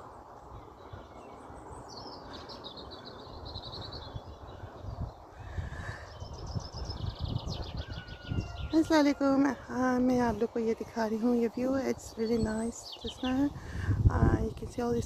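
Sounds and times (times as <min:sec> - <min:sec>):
songbird twittering: 0:00.0 - 0:14.5.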